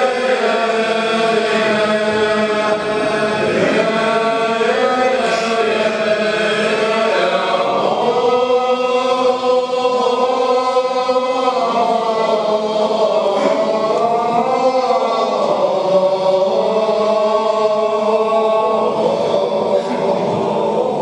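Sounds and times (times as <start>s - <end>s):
male voices chanting: 0.0s - 21.0s.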